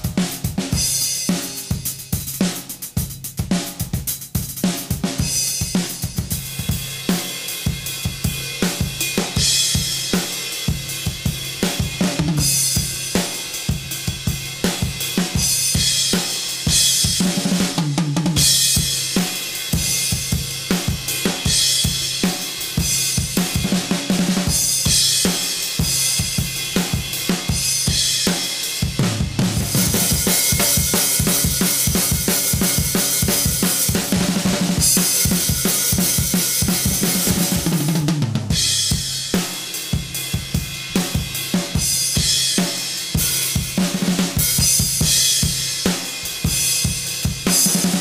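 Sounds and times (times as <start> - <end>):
drum kit groove: 0.0 - 48.0.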